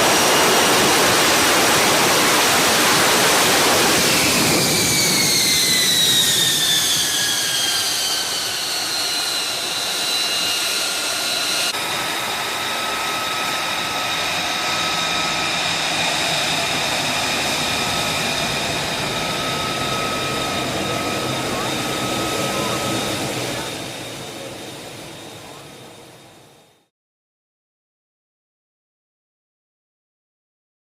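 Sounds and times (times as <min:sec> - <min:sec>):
jet engine high whine: 0:00.0 - 0:26.9
jet engine roar: 0:00.0 - 0:26.9.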